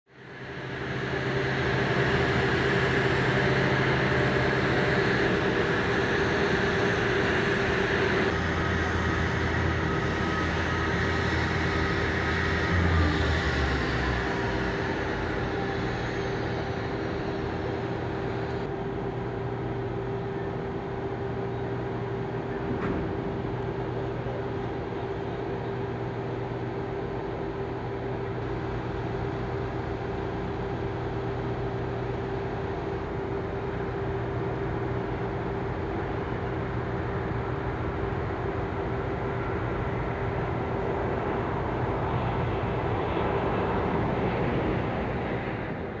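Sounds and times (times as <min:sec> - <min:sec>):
machinery humming: 0:00.1 - 0:46.0.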